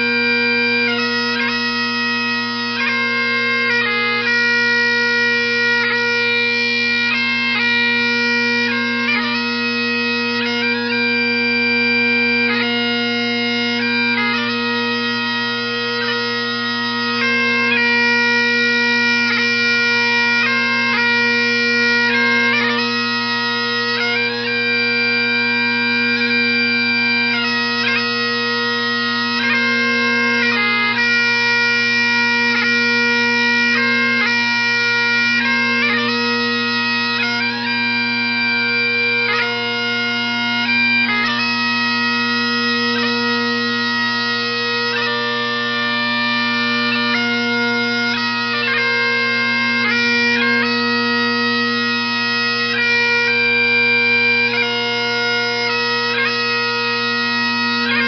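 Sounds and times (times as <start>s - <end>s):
bagpipe music: 0.0s - 58.0s.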